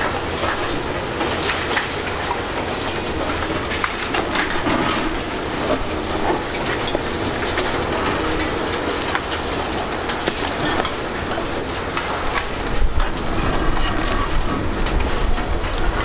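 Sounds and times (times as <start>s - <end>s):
demolition rubble clattering: 0.0s - 16.0s
heavy machinery rumble: 0.0s - 16.0s.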